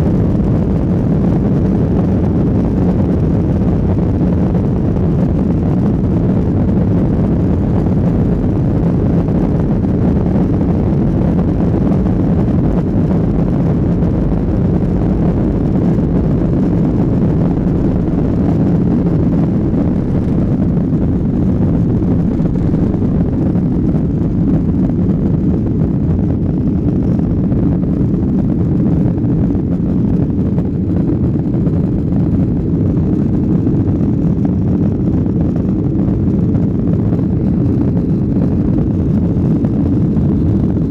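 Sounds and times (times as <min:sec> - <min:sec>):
jet airliner cabin noise: 0:00.0 - 0:40.9.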